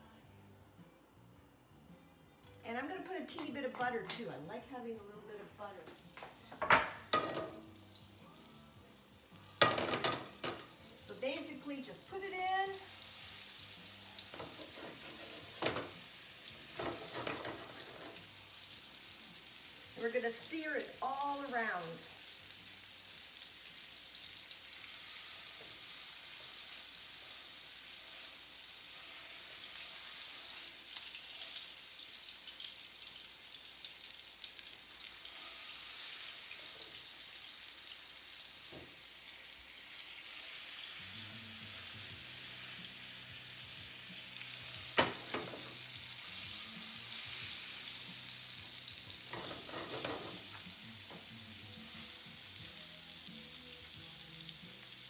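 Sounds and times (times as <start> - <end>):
meat sizzling in a frying pan: 5.9 - 55.0.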